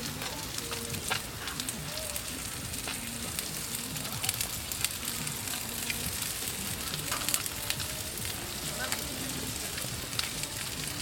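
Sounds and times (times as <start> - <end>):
food sizzling in a frying pan: 0.0 - 11.0
sharp pops and crackles: 0.0 - 11.0.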